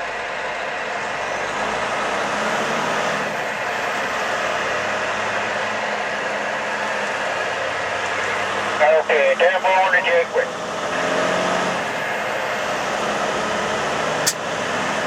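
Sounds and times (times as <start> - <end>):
road and wind noise: 0.0 - 15.0
truck engine drone: 0.0 - 15.0.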